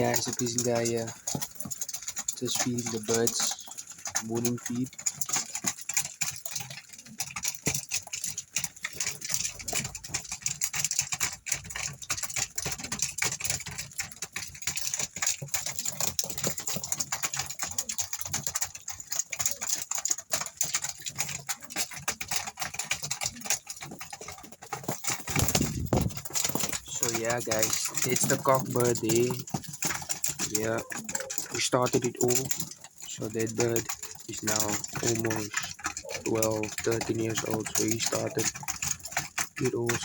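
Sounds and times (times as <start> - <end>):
pigeons pecking at feed: 0.0 - 40.0.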